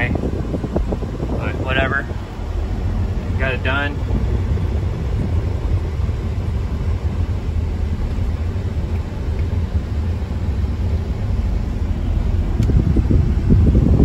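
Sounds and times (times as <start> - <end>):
truck diesel engine rumbling: 0.0 - 14.0.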